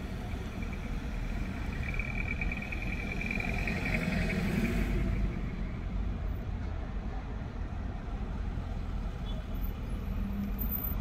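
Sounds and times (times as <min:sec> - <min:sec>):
low rumble of slow traffic: 0:00.0 - 0:11.0.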